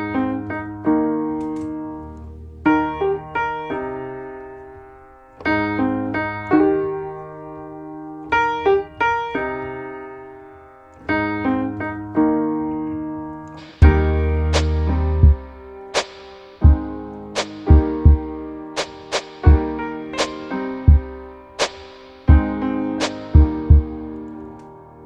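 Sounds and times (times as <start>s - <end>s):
solo piano music: 0.0s - 25.0s.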